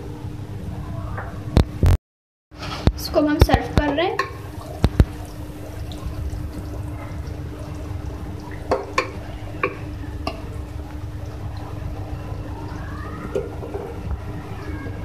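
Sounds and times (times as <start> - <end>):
steady low hum: 2.6 - 15.0.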